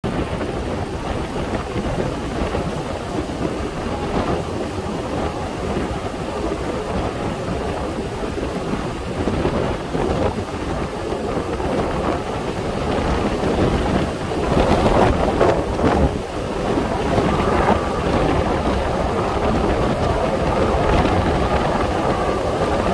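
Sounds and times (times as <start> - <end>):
gusting wind buffeting microphone: 0.0 - 22.9.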